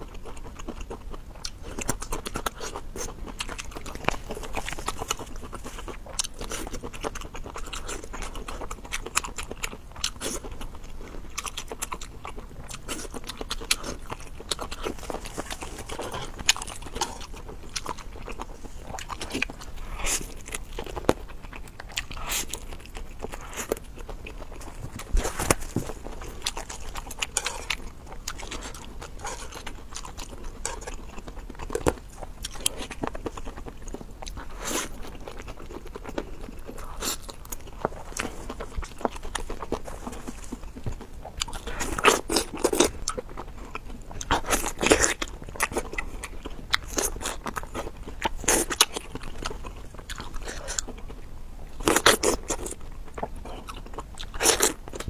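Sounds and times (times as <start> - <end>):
person chewing noodles: 0.0 - 55.0.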